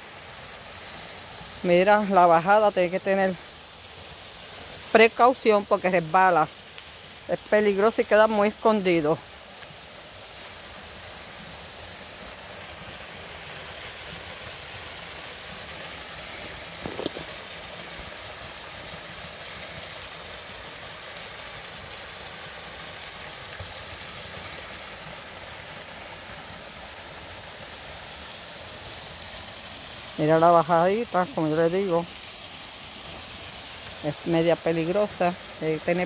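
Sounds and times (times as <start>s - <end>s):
stream and small waterfall rushing: 0.0s - 36.0s.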